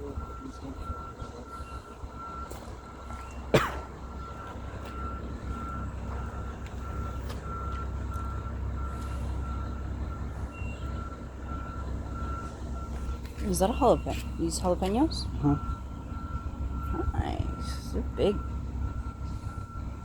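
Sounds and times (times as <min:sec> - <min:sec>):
electronic alarm beeping: 0:00.0 - 0:20.0
low rumble: 0:00.0 - 0:20.0.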